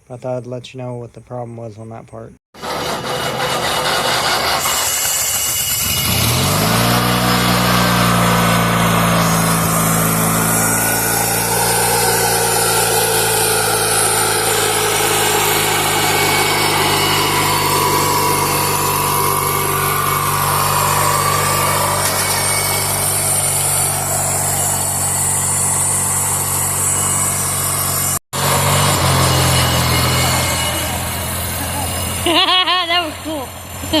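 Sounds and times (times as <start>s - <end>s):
lawn mower engine running: 2.6s - 34.0s.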